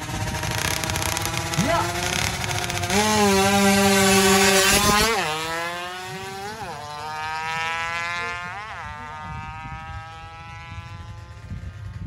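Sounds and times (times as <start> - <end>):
motorcycle accelerating and shifting: 0.0 - 12.0.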